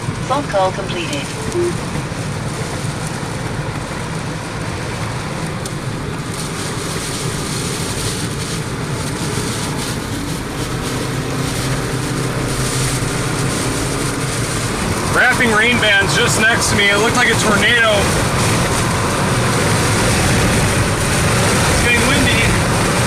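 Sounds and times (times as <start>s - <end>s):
road noise: 0.0s - 23.0s
vehicle engine drone: 0.0s - 23.0s.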